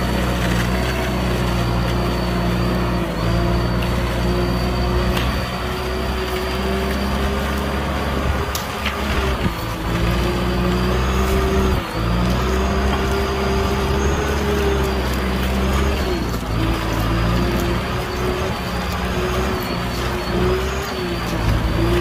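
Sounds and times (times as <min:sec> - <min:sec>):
tractor diesel engine under load: 0:00.0 - 0:22.0
wavering whine: 0:00.0 - 0:22.0.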